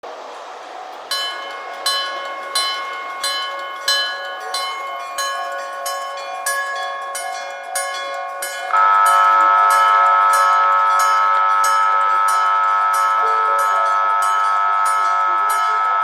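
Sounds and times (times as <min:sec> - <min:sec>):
level crossing bell ringing: 0:01.1 - 0:16.0.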